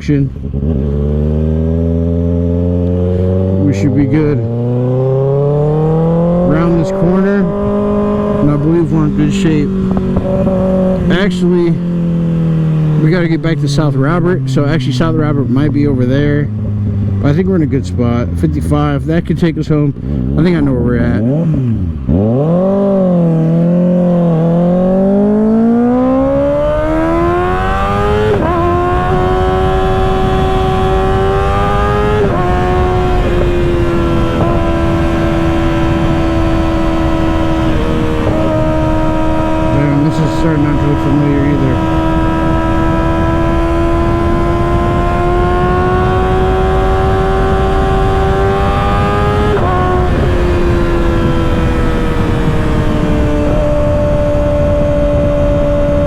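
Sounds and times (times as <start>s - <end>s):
wind rumbling on microphone: 0.0s - 19.0s, 20.0s - 56.0s
motorcycle engine accelerating: 0.0s - 56.0s.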